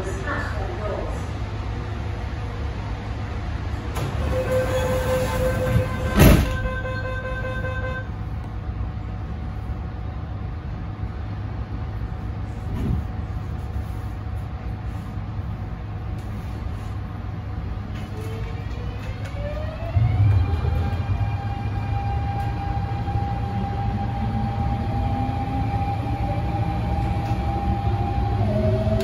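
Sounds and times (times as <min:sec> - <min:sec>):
train wheels and motors rumbling: 0:00.0 - 0:29.0.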